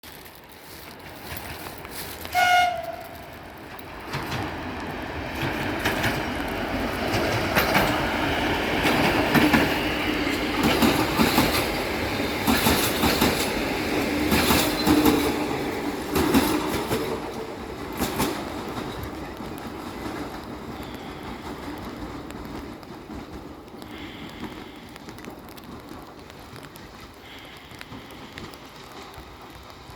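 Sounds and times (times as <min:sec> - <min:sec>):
train wheels clattering: 0:00.3 - 0:29.9.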